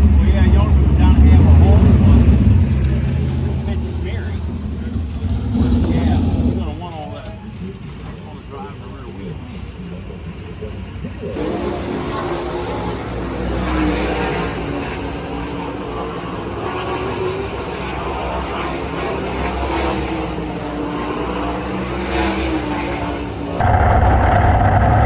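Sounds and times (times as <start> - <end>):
race car engines running: 0.0 - 25.0.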